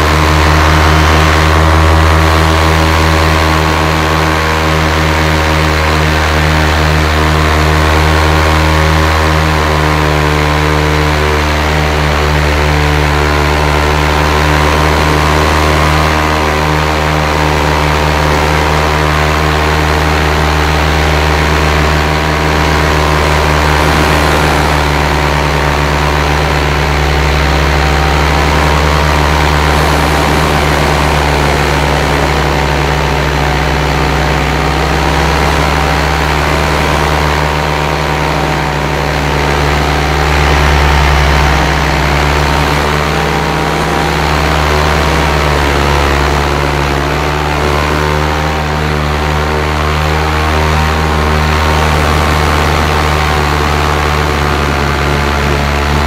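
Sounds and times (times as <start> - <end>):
paramotor engine drone: 0.0 - 56.0.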